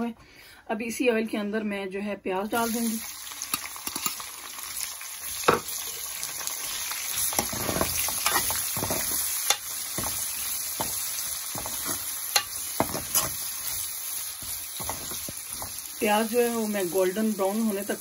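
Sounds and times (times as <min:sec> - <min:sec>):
onions sizzling in hot oil: 0:02.6 - 0:18.0.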